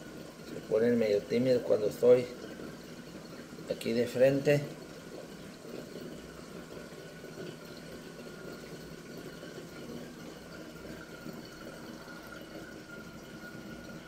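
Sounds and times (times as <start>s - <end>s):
aquarium water circulating: 0.0s - 14.0s.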